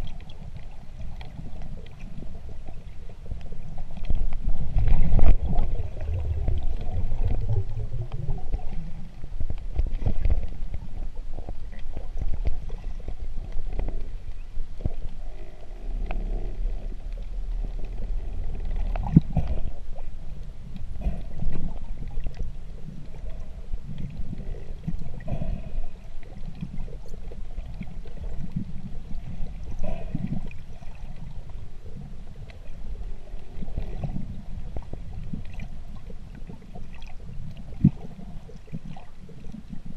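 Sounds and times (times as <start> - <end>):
faint underwater clicks: 0.0 - 39.9
underwater churning rumble: 0.0 - 39.9.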